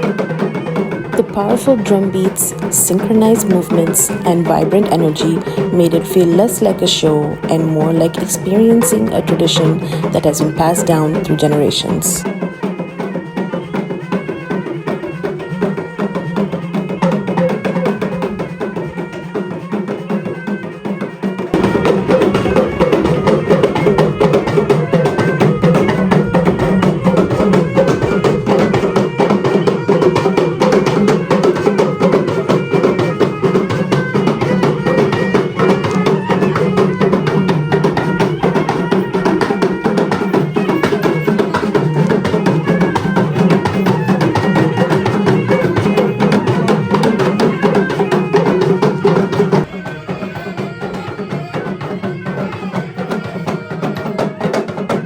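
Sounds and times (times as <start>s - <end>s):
tribal drums and percussion: 0.0s - 55.0s.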